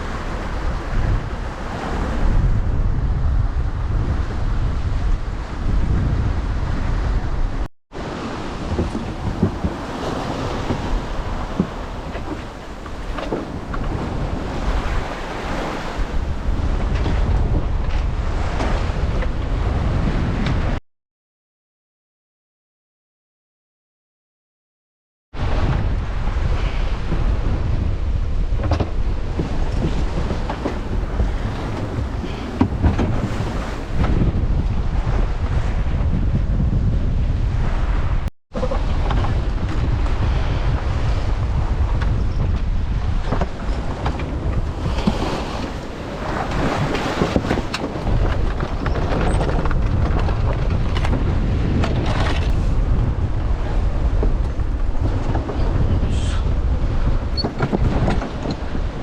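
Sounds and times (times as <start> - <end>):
waves rushing along hull: 0.0 - 20.8, 25.4 - 59.0
wind buffeting microphone: 0.0 - 20.8, 25.4 - 59.0.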